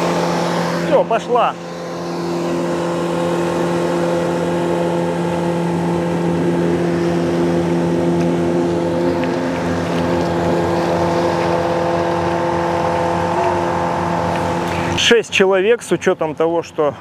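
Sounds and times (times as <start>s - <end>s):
outboard engine running: 0.0s - 17.0s.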